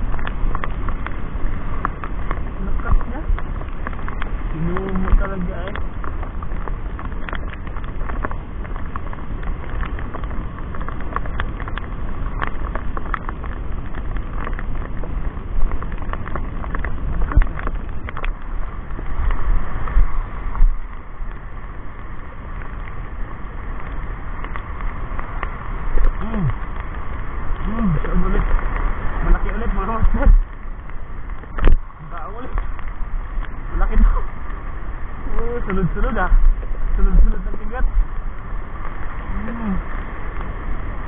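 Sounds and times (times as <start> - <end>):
waves washing on pebbles: 0.0 - 41.0
wind buffeting microphone: 0.0 - 41.0.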